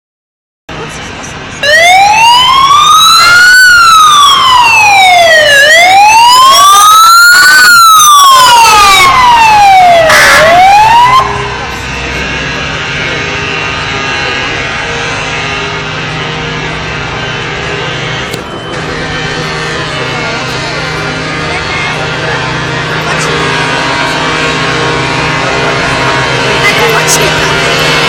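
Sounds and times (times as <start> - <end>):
wailing siren: 1.6 - 28.0.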